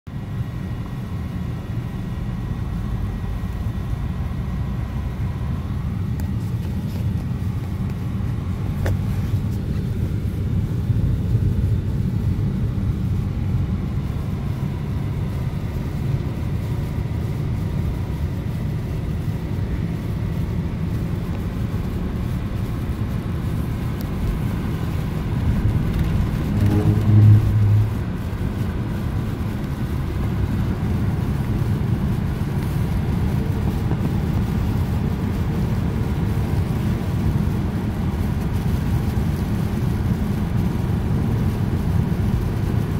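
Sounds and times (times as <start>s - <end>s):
car engine and tyres on snow: 0.1s - 42.9s
low steady hum: 0.1s - 42.9s.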